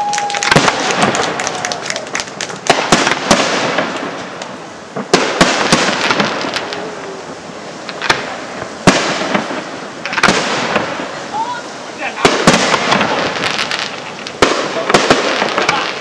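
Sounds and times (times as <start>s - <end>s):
firework shells bursting: 0.0s - 7.0s, 7.8s - 11.2s, 12.0s - 16.0s
firework crackling: 0.0s - 16.0s.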